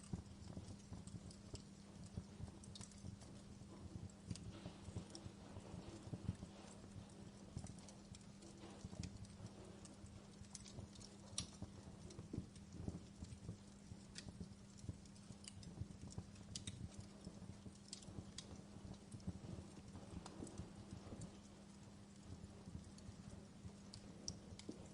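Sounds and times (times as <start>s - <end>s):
steady low hum: 0.0s - 24.9s
wood fire crackling: 0.0s - 24.9s.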